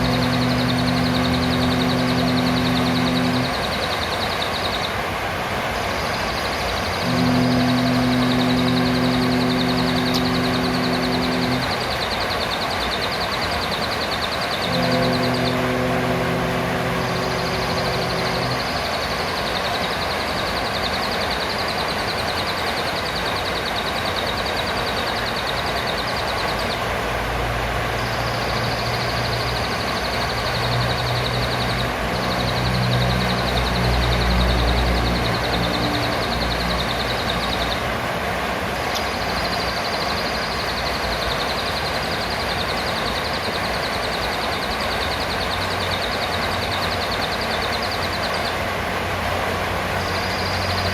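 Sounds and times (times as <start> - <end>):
parrot high-pitched rapid trills: 0.0 - 5.1, 5.8 - 50.9
steady loud hiss: 0.0 - 50.9.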